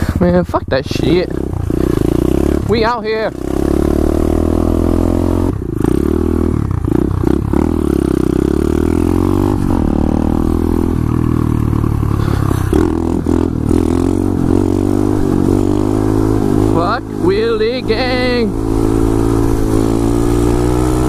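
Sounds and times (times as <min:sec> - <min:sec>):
motorcycle engine revving hard: 0:00.0 - 0:21.0.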